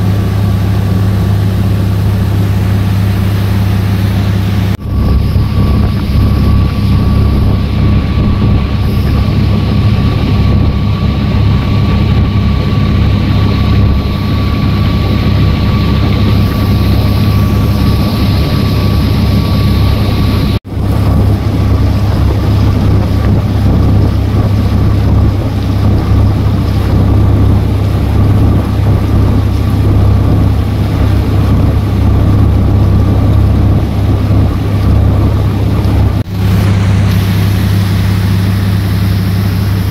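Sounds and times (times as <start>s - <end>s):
boat engine running: 0.0s - 39.9s
thin steady whine: 0.0s - 39.9s
wind on microphone: 0.0s - 39.9s.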